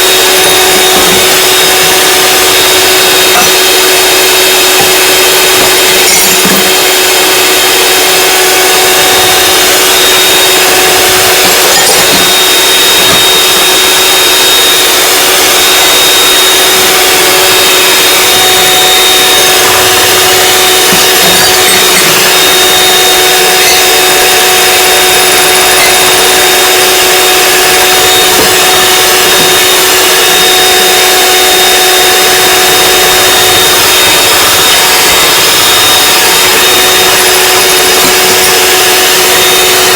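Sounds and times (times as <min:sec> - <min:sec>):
electric mixer whining: 0:00.0 - 0:39.9.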